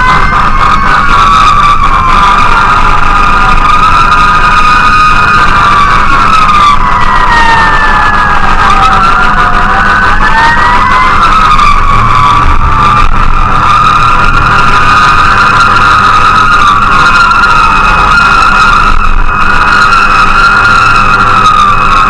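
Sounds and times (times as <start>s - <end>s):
fire engine siren wailing: 0.0s - 22.0s
truck engine running: 0.0s - 22.0s.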